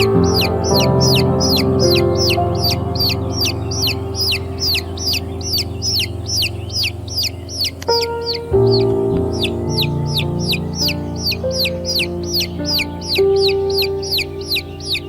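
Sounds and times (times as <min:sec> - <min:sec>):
baby chicks peeping: 0:00.0 - 0:15.0
soft sustained music chords: 0:00.0 - 0:15.0.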